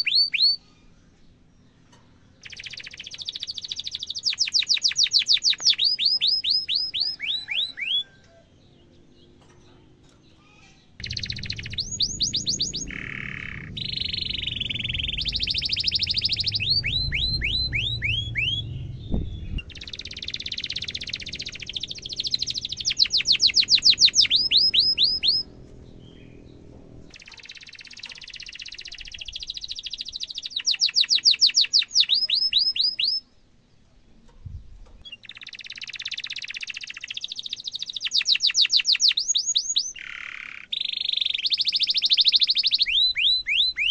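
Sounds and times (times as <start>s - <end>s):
canary singing trills: 0.0s - 33.4s, 35.0s - 43.9s.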